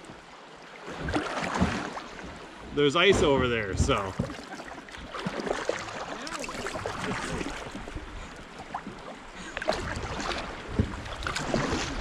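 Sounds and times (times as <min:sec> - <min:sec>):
paddles dipping in water: 0:00.0 - 0:12.0
small water splashes: 0:00.0 - 0:12.0
water lapping at a hull: 0:00.0 - 0:12.0.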